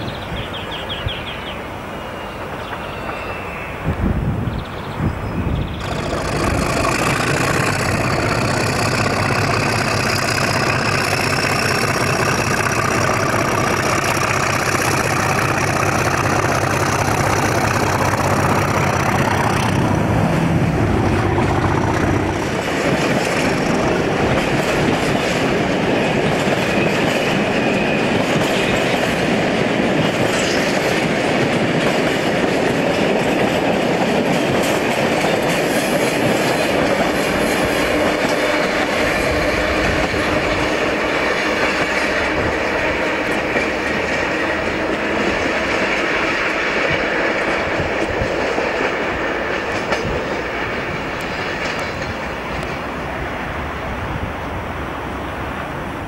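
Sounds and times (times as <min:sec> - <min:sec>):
diesel locomotive engine drone: 0:00.0 - 0:56.0
train wheels clattering on rails: 0:02.4 - 0:04.2, 0:05.5 - 0:53.6.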